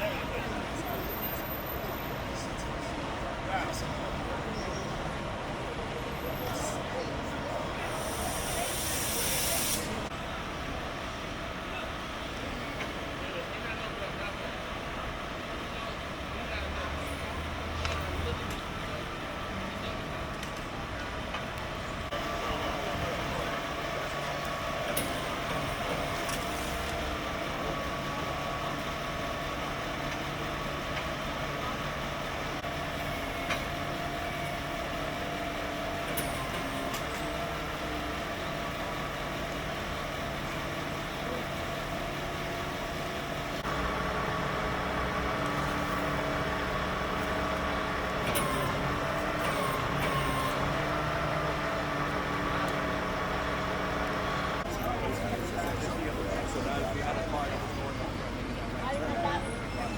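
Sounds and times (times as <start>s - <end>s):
large vehicle engine idling: 0.0s - 59.9s.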